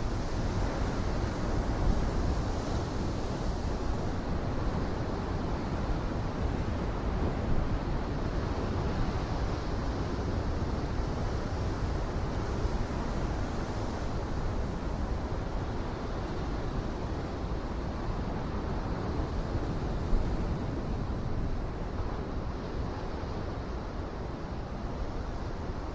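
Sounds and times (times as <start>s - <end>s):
low rumble of waves: 0.0s - 25.9s.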